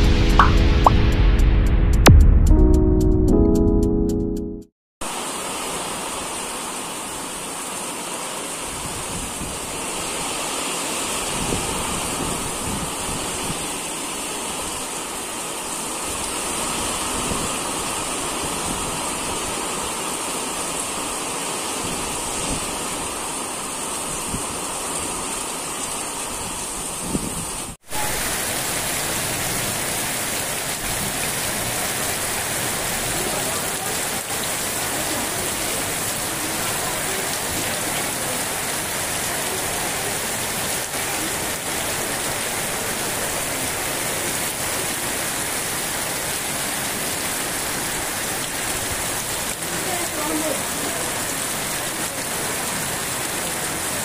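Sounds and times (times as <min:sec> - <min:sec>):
steady rain on puddles: 0:05.0 - 0:54.0.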